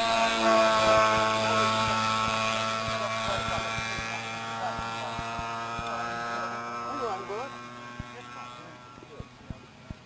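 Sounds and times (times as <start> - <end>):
electrical buzz: 0.0 - 10.0.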